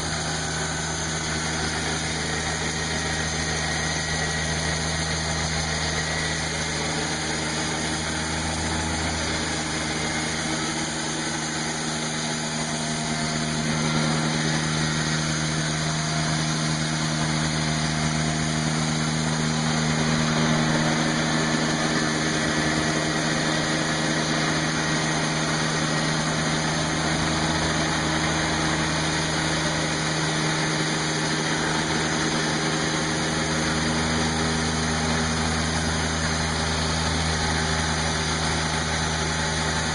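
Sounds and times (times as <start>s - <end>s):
diesel engine running under load: 0.0s - 39.9s
saw blade cutting log: 0.0s - 39.9s.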